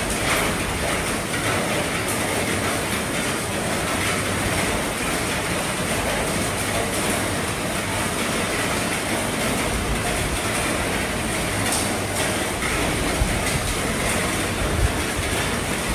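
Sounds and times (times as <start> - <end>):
heavy rain on a roof: 0.0 - 15.9.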